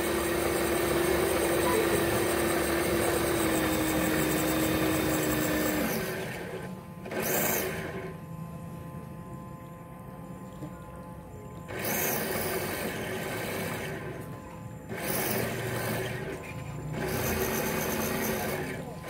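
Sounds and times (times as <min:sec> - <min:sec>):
model boat motor humming: 0:00.0 - 0:19.0.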